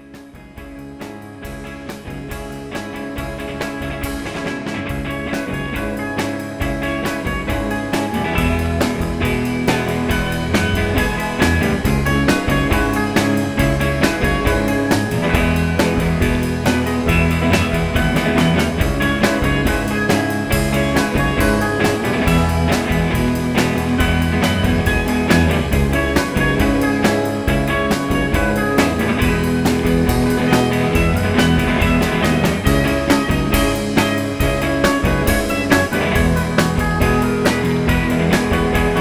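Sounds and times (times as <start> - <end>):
drum kit beat: 0.0 - 39.0
electric guitar: 0.0 - 39.0.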